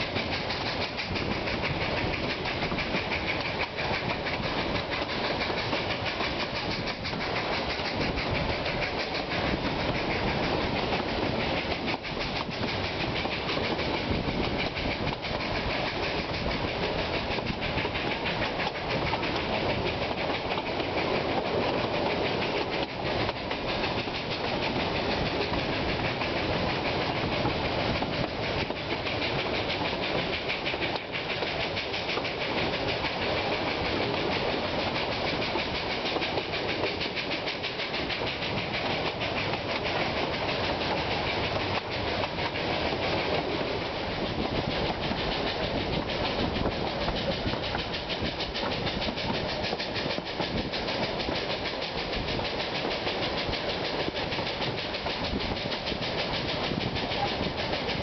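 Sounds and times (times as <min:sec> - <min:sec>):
train wheels clattering on track: 0:00.0 - 0:58.0.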